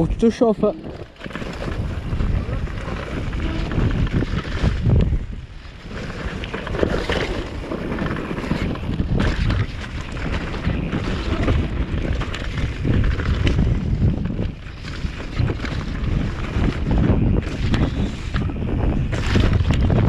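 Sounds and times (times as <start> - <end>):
bike rattle and tyre noise: 0.0 - 20.0
wind buffeting microphone: 0.0 - 20.0.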